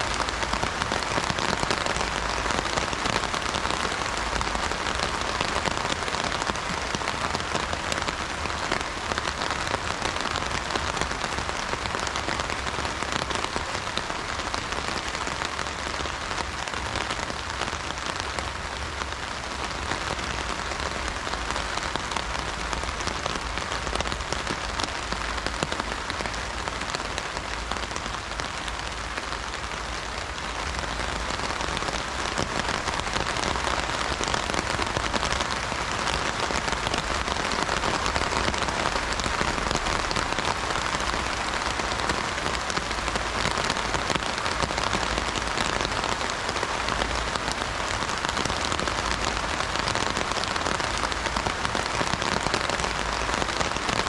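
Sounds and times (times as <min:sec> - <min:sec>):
heavy rain on an umbrella: 0:00.0 - 0:54.0.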